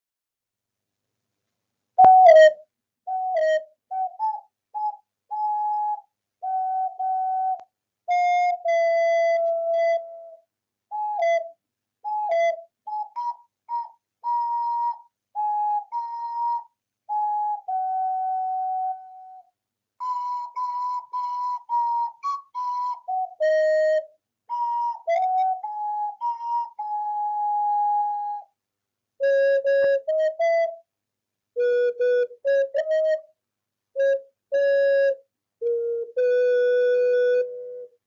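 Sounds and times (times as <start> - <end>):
ocarina melody: 2.0 - 28.5, 29.2 - 30.9, 31.6 - 33.3, 34.0 - 38.0.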